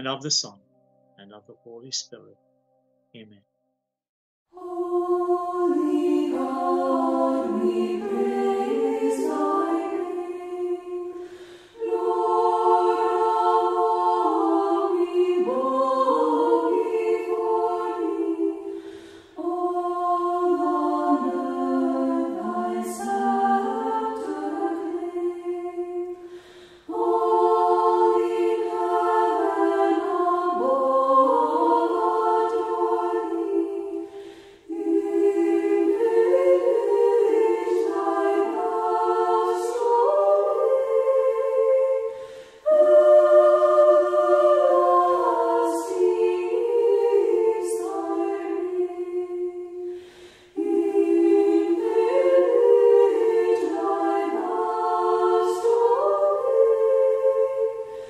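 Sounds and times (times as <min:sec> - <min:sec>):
choir singing a cappella: 0:04.5 - 0:58.0.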